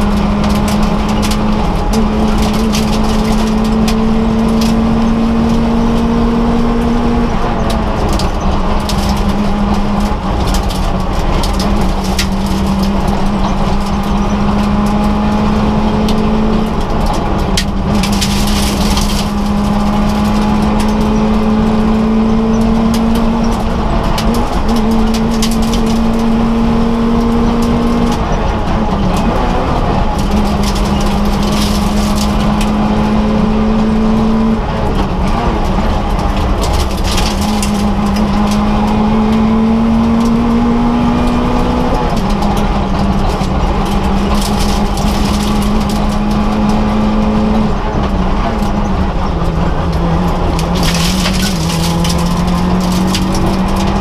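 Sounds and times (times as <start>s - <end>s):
car engine revving high: 0.0s - 54.0s
road and tyre noise: 0.0s - 54.0s.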